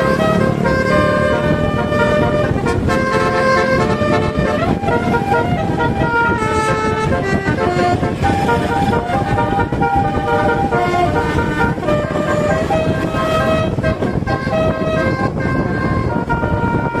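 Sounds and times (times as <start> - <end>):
musical bus horn melody: 0.0 - 17.0
steady low rumble: 0.0 - 17.0.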